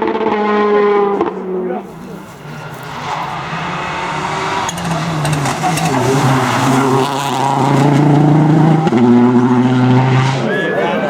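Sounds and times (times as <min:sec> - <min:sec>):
rally car engine running hard: 0:00.0 - 0:10.5.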